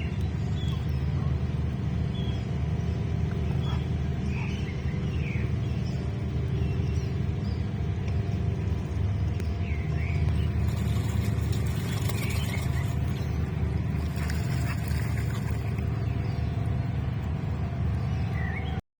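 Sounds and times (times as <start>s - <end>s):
low background rumble: 0.0s - 18.8s.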